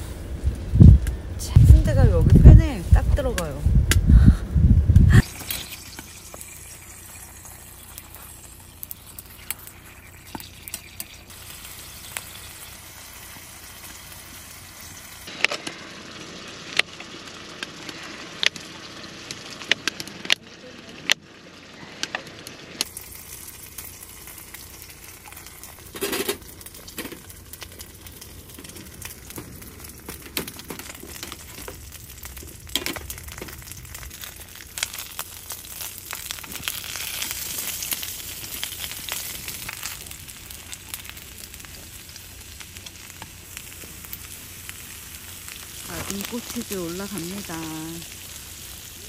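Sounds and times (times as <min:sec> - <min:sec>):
sausage sizzling in pan: 0:05.1 - 0:49.0.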